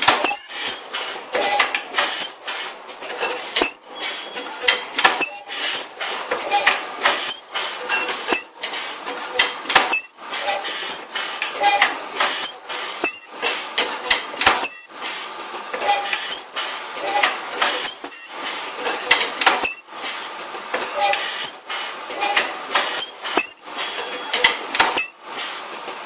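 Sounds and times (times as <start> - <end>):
continuous workshop hiss: 0.0 - 26.0.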